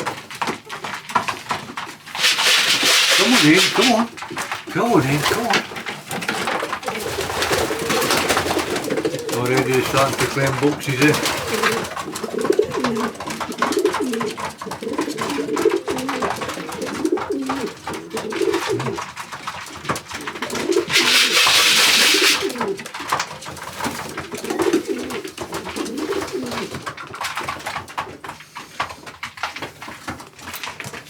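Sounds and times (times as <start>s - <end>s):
pigeons cooing: 1.9s - 26.9s.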